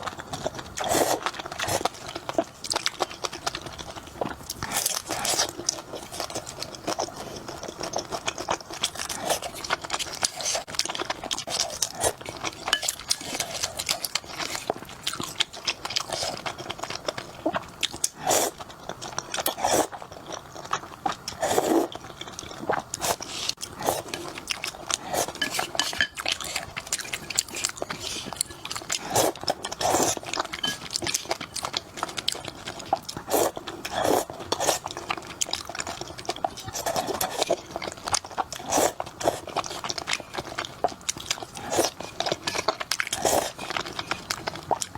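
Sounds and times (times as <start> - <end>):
person chewing and crunching food: 0.0 - 44.9.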